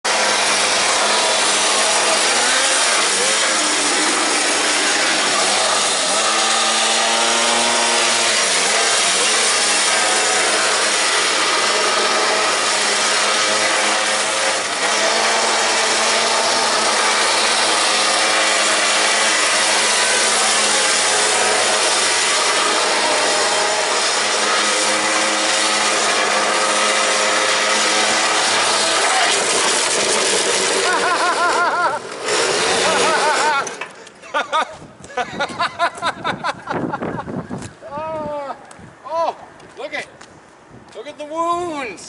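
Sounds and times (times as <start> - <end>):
small gas engine rasping buzz: 0.0 - 37.8.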